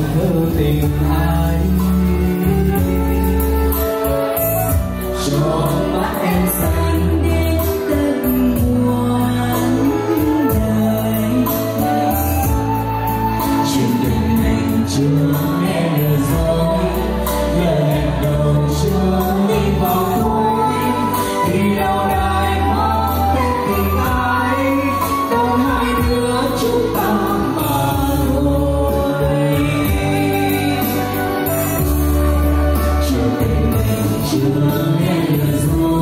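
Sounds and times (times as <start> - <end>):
backing music with bass line: 0.0 - 36.0
person singing: 0.0 - 36.0.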